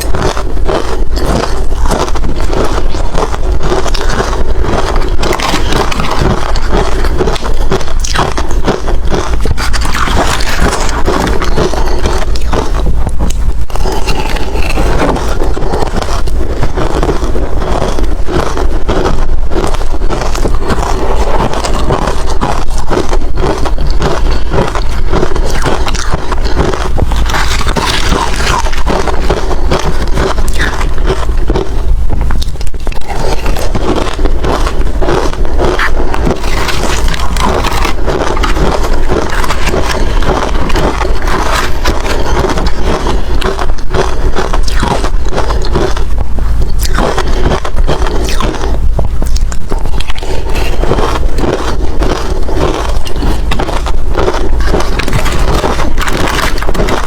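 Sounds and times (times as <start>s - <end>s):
ice being crunched: 0.0s - 57.0s.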